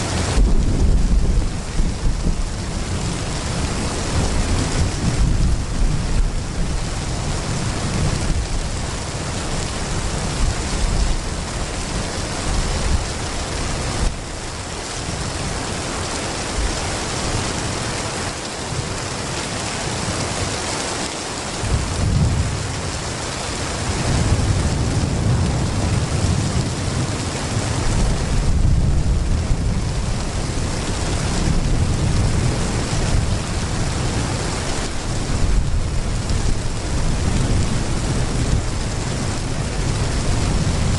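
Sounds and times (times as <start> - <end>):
low thunder rumbling: 0.0 - 17.8, 21.6 - 40.9
heavy rain pouring: 0.0 - 40.9.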